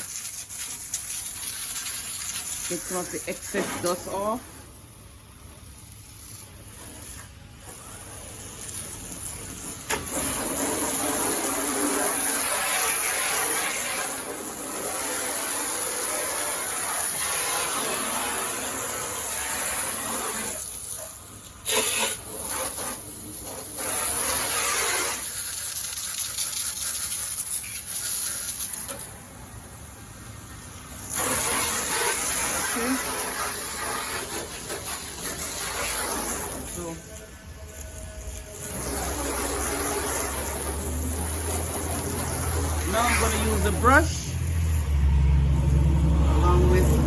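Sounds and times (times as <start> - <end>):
water spray hissing: 0.0 - 47.0.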